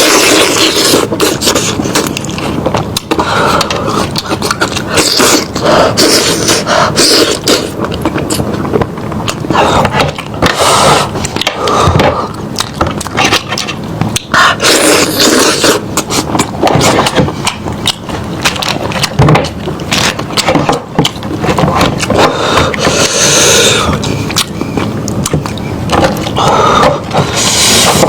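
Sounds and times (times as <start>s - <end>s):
wet chewing and lip-smacking: 0.0s - 26.4s.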